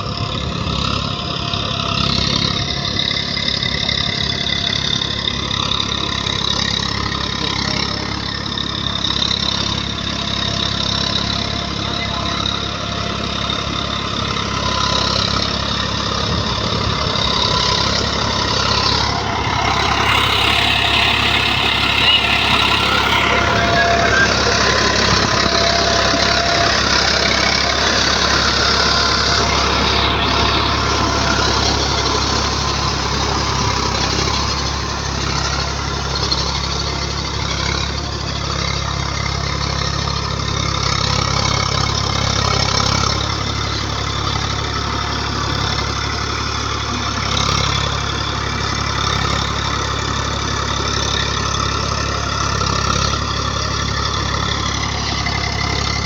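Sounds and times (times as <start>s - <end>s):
tractor diesel engine clattering: 0.0s - 56.0s.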